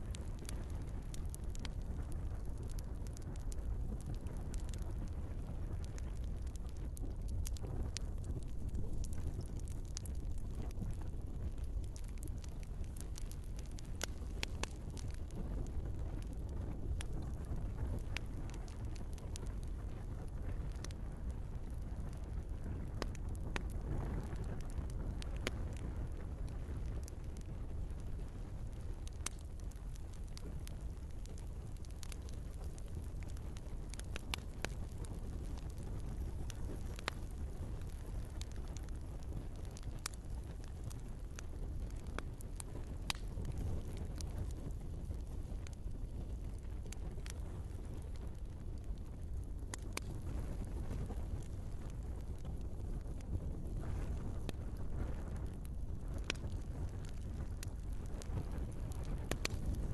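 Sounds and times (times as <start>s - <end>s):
sharp pops from burning wood: 0.0s - 48.6s, 49.3s - 59.9s
low rumble of flame: 0.0s - 59.9s.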